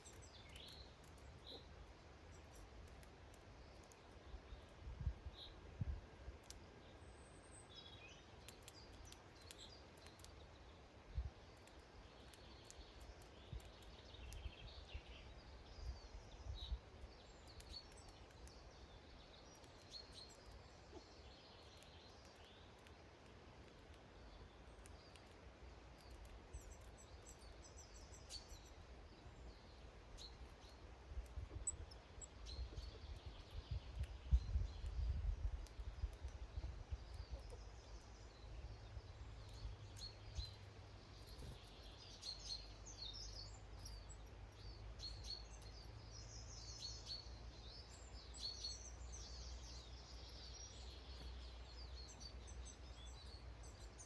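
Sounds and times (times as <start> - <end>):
songbirds chirping faintly: 0.0 - 54.0.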